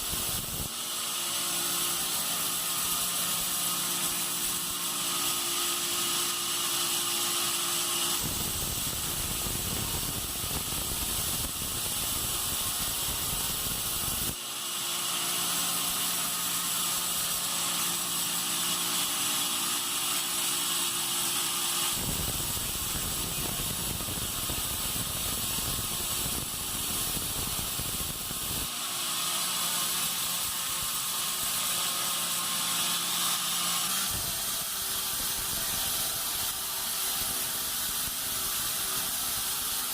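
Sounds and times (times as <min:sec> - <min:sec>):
saw blade cutting log: 0:00.0 - 0:39.9
sawmill motor hum: 0:00.0 - 0:39.9.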